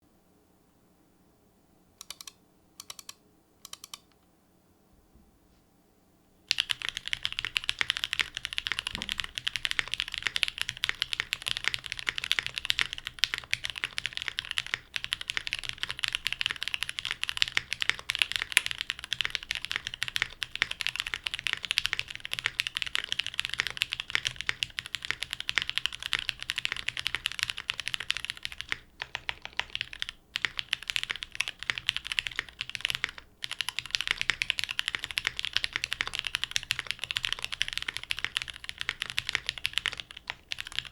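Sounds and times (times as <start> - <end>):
mechanical keyboard typing: 2.0 - 4.2, 6.5 - 40.9.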